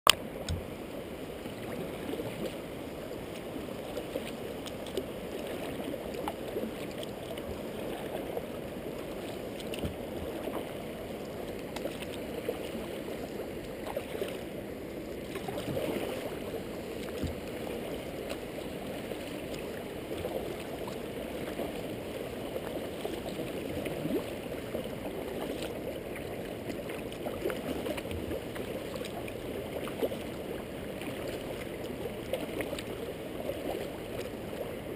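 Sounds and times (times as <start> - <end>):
paddle splashes: 0.1 - 34.9
water lapping against kayak hull: 0.1 - 34.9.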